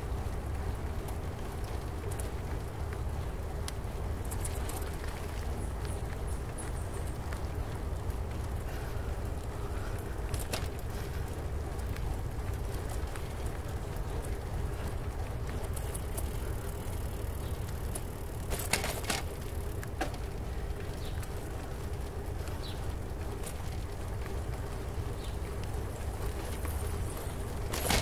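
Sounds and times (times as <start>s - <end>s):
bicycle clicks and rattles: 0.0s - 28.0s
rolling tyres: 0.0s - 28.0s.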